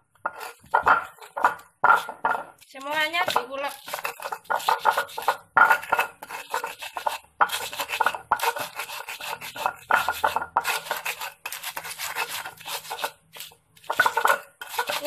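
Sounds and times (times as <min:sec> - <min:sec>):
pestle grinding in mortar: 0:00.0 - 0:15.0.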